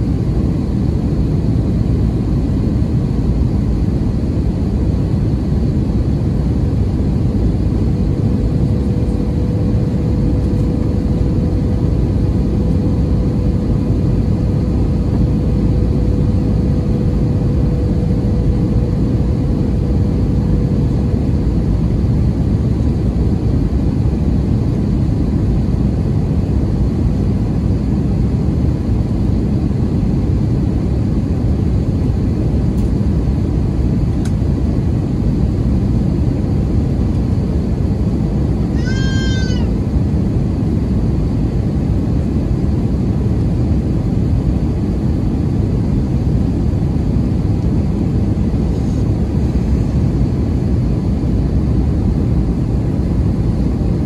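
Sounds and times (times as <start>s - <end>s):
aircraft cabin roar: 0.0s - 54.0s
faint steady hum: 0.0s - 54.0s.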